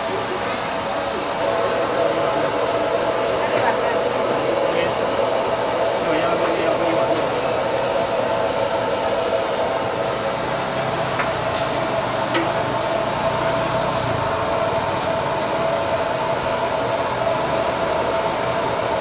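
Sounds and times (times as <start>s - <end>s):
machine whir: 0.0s - 19.0s.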